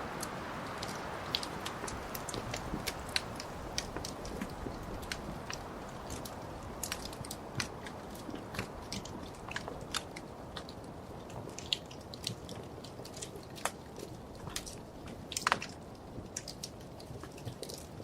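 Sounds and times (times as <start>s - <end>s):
fire rumbling and hissing: 0.0s - 18.0s
wood fire popping and snapping: 0.0s - 18.0s.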